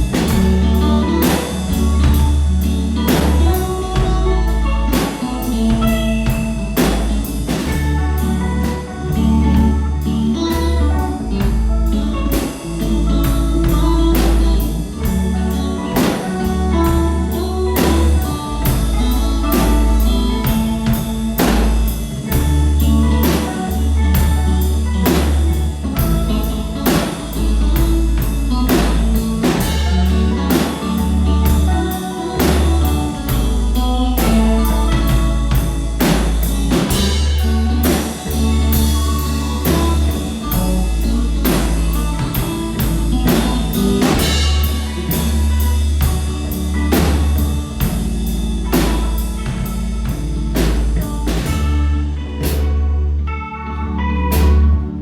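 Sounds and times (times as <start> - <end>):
drum kit beat: 0.0 - 53.2
rock band music: 0.0 - 55.0
sustained bass notes: 0.0 - 55.0.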